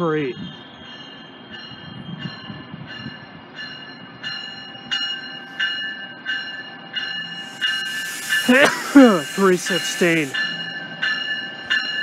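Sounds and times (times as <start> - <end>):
train warning bell ringing: 0.0 - 12.0.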